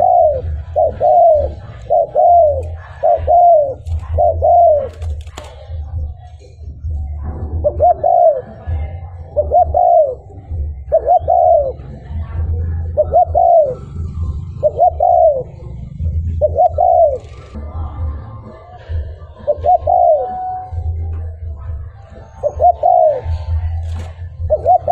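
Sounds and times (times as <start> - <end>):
dove cooing: 0.0 - 24.9.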